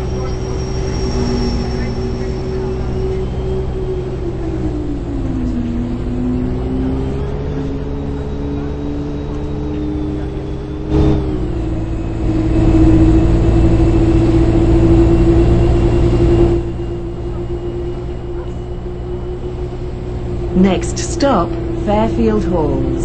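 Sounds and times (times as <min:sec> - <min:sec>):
bus interior hum: 0:00.0 - 0:23.0
drivetrain whine: 0:00.0 - 0:23.0.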